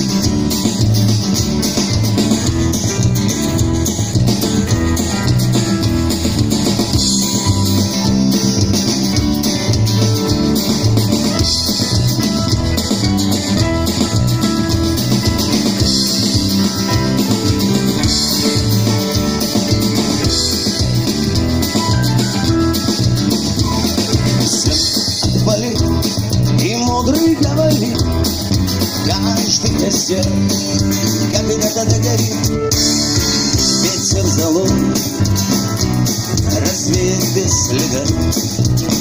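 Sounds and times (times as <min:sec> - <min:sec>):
drum kit beat: 0:00.0 - 0:39.0
rock guitar: 0:00.0 - 0:39.0.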